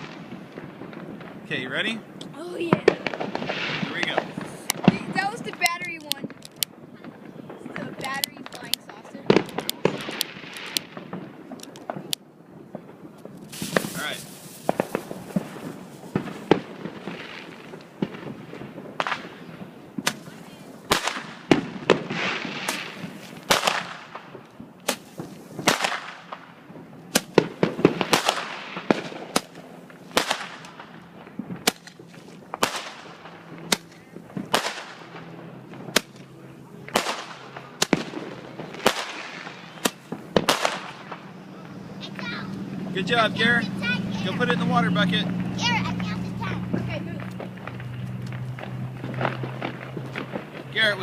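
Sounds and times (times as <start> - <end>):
firework hiss: 0.0 - 6.7, 7.5 - 12.1, 12.8 - 42.6
firework bangs: 0.0 - 51.0.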